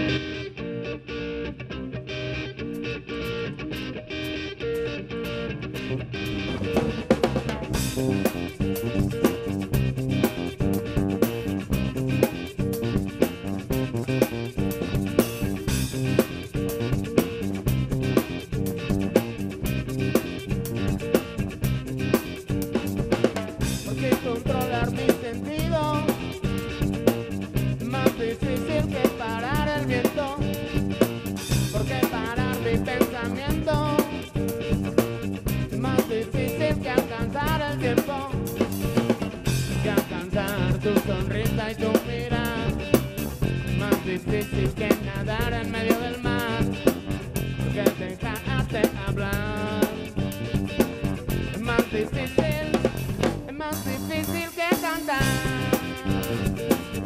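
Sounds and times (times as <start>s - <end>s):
live band playing dance song: 3.2s - 57.0s.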